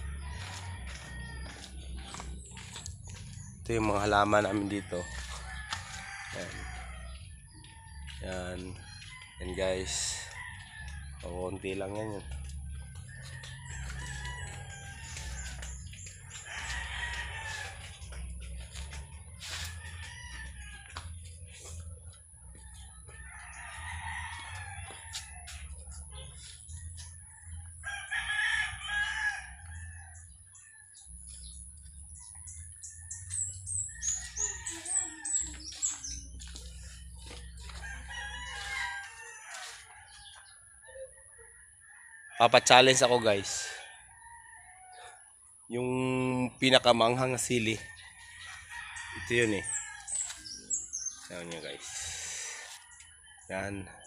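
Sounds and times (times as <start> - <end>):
roosters crowing: 0.0 - 54.0.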